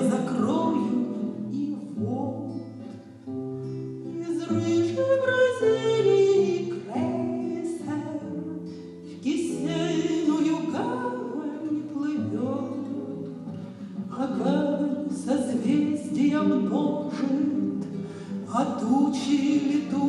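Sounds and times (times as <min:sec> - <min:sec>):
woman singing: 0:00.0 - 0:03.1, 0:03.8 - 0:20.0
acoustic guitar plucked chords: 0:00.0 - 0:20.0.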